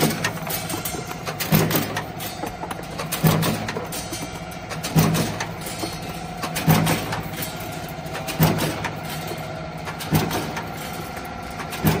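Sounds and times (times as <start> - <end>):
press and feeder humming: 0.0 - 12.0.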